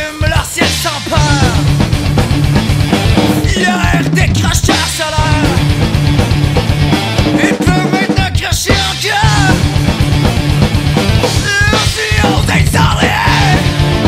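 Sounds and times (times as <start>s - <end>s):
fast driving drum beat: 0.0s - 14.0s
heavy rock band playing: 0.0s - 14.0s.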